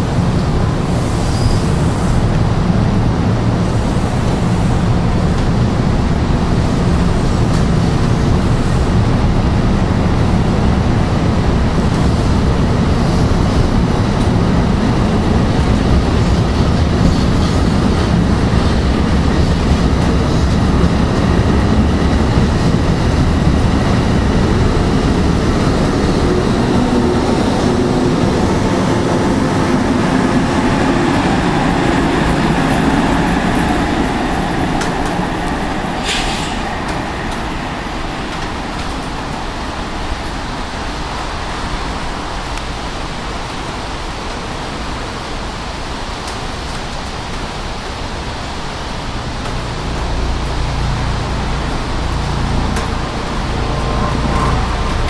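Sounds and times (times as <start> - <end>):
train coaches rolling past: 0.0 - 55.0.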